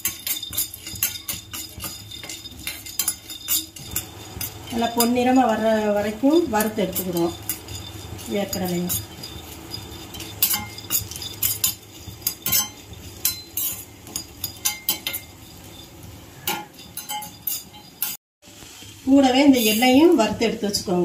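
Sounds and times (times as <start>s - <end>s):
peanuts rattling in pan: 0.0s - 18.2s
metal spoon scraping a pan: 0.0s - 20.3s.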